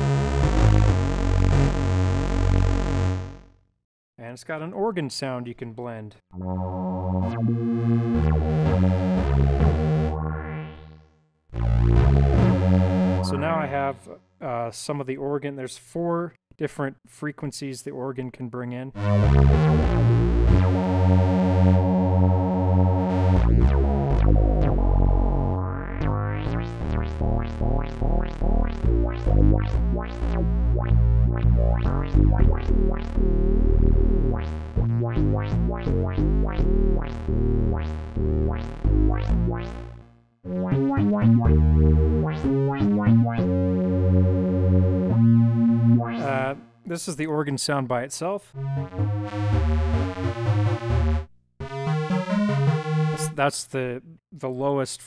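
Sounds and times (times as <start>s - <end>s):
synthesizer chords and notes: 0.0s - 3.6s, 6.3s - 14.4s, 19.0s - 47.2s, 48.5s - 53.5s.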